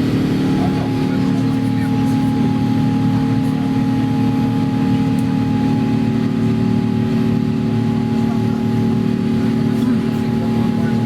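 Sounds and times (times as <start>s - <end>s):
jet engines: 0.0s - 11.0s
low hums: 0.0s - 11.0s.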